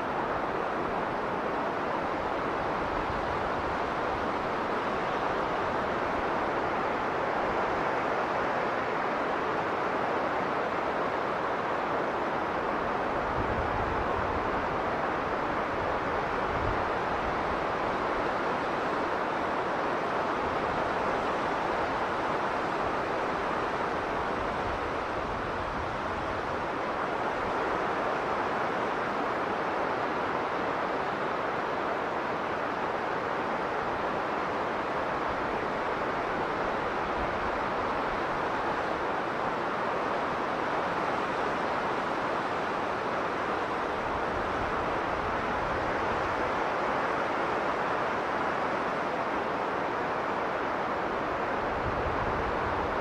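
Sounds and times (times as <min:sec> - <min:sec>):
strong blizzard wind blowing: 0:00.0 - 0:53.0.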